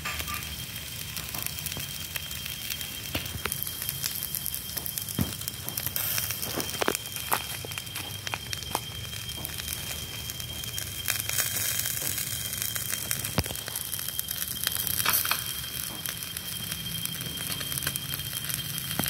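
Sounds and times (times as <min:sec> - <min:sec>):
fish grilling over charcoal crackling: 0:00.0 - 0:19.0.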